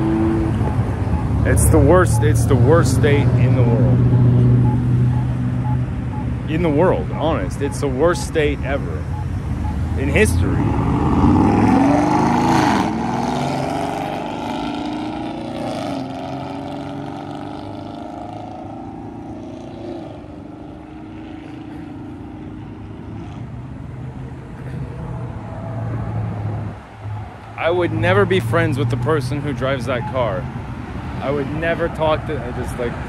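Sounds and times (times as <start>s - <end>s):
car passing and driving off: 0.0s - 33.0s.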